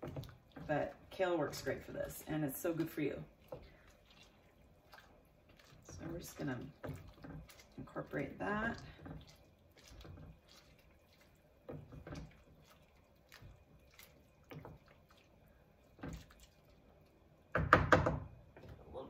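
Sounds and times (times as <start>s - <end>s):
wooden spoon stirring thick soup: 0.0s - 19.0s.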